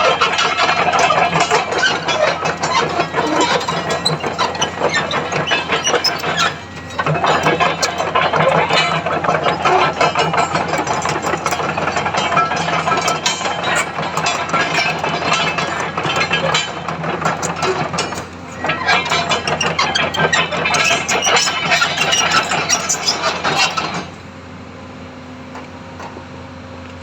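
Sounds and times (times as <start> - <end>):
mechanical clattering: 0.0 - 24.1
excavator diesel engine running: 0.0 - 26.4.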